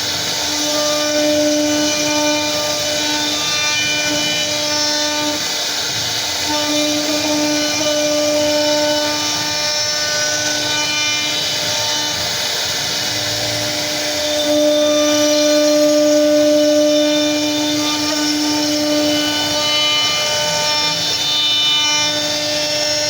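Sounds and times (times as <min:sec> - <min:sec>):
router bit cutting wood: 0:00.0 - 0:23.0
router spindle whine: 0:00.0 - 0:23.0.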